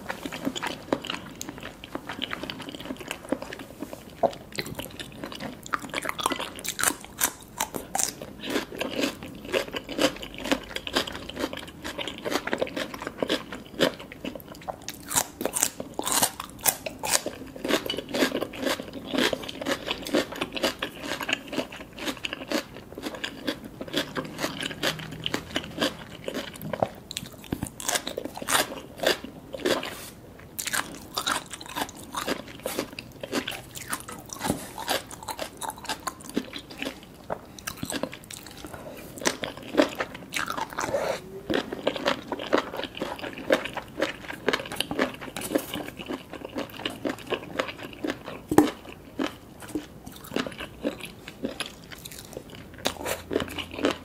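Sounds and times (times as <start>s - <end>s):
crunching and chewing cucumber: 0.0s - 54.0s.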